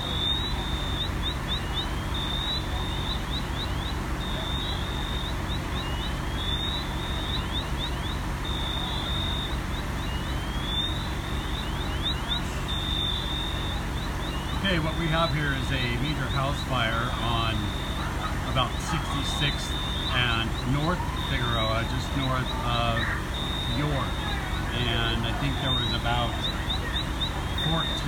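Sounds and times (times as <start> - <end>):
diesel engines rumbling: 0.0 - 28.0
siren with chirps and sweeps: 0.0 - 28.0.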